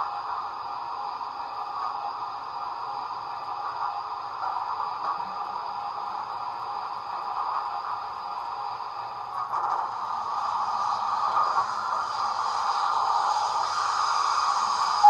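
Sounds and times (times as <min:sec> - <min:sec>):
model steam locomotive sound: 0:00.0 - 0:15.0.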